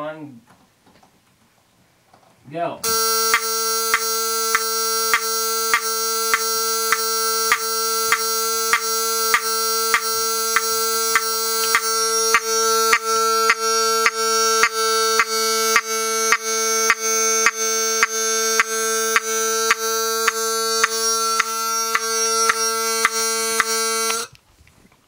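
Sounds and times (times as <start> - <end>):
fire alarm horn buzzing: 2.8 - 24.3.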